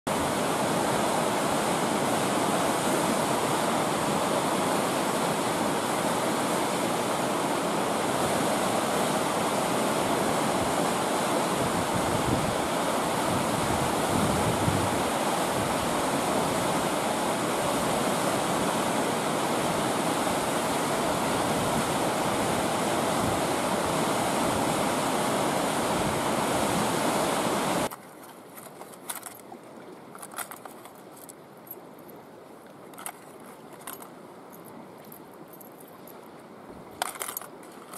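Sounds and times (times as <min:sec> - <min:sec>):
river rushing over rapids: 0:00.1 - 0:37.9.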